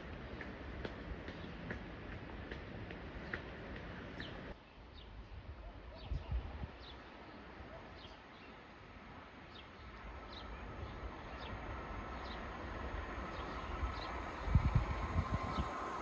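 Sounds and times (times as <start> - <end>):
train rumble and rail noise: 0.0 - 4.6, 6.5 - 16.0.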